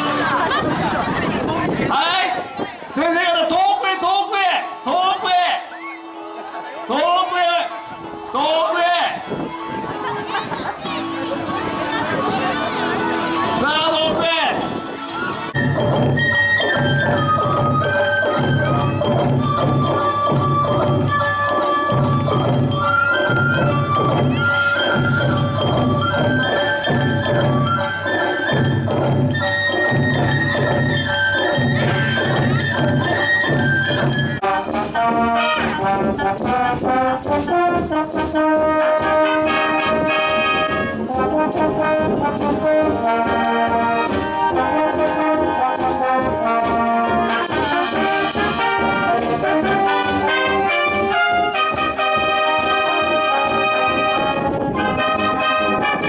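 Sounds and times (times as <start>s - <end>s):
wind band playing: 0.0s - 3.0s, 3.8s - 56.0s.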